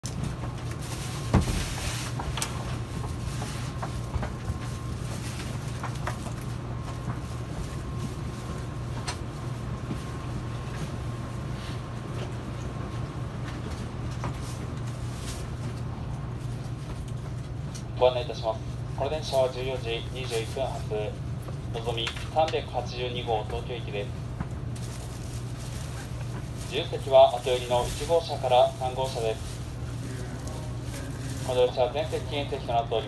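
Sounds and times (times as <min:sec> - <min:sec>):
train interior low hum: 0:00.0 - 0:33.0.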